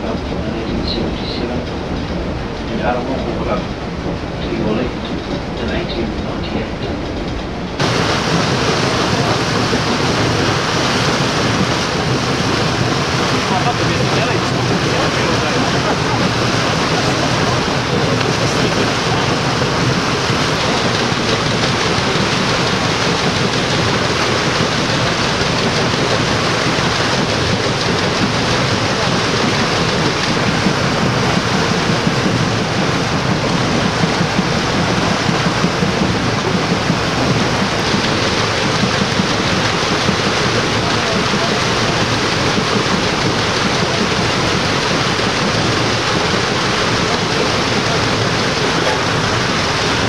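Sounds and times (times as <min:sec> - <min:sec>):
paddle wheel churning water: 0:00.0 - 0:50.0.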